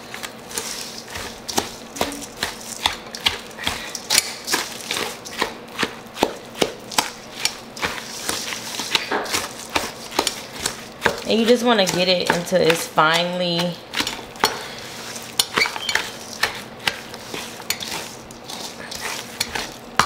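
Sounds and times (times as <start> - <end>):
scraping mashing stuffing: 0.0 - 20.0.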